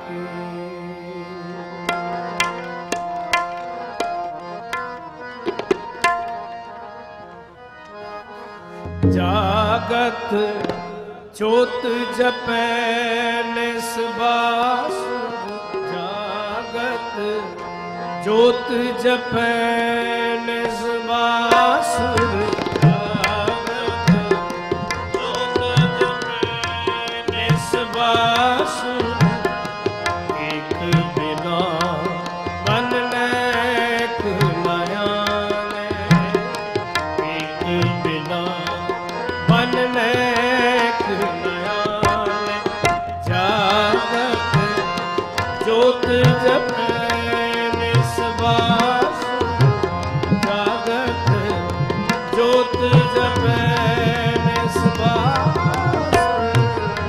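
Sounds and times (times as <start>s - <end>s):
harmonium melody: 0.0s - 57.0s
tabla beat: 1.7s - 6.8s, 8.8s - 17.0s, 18.2s - 57.0s.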